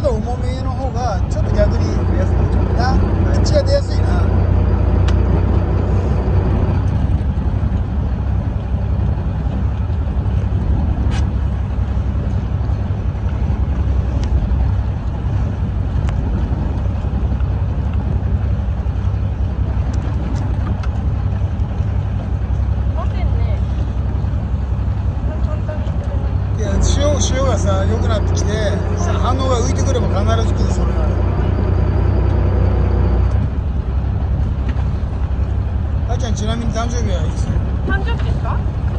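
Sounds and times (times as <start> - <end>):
boat engine rumble: 0.0 - 38.9
wind buffeting microphone: 0.0 - 38.9.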